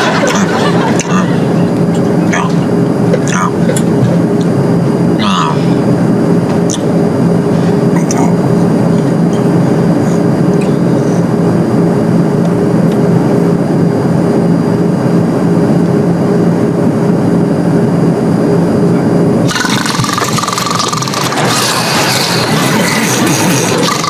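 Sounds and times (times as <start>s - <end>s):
airliner cabin rushing drone: 0.0s - 24.0s.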